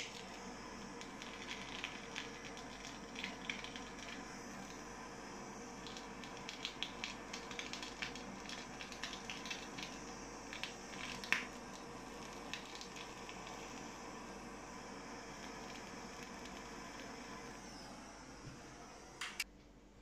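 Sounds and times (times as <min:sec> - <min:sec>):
crackles and pops: 0:00.0 - 0:05.0, 0:05.7 - 0:14.4, 0:15.1 - 0:17.5
blowtorch flame hissing: 0:00.0 - 0:19.4.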